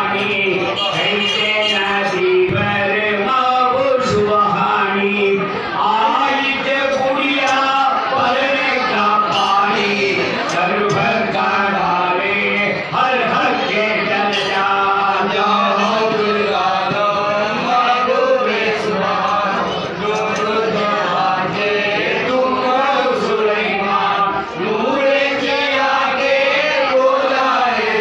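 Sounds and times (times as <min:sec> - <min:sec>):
men chanting together: 0:00.0 - 0:28.0.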